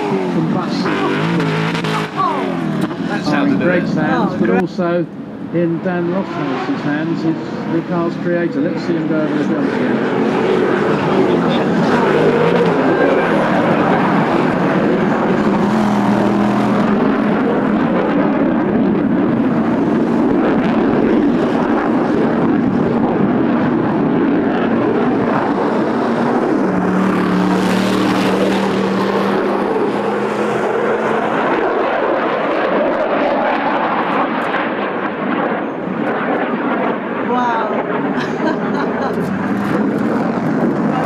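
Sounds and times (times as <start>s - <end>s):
fighter jet roar: 0.0s - 41.0s.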